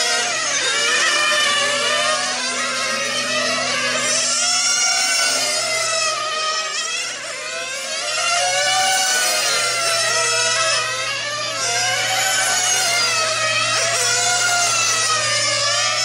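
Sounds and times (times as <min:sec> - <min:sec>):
rc car engines buzzing: 0:00.0 - 0:16.0.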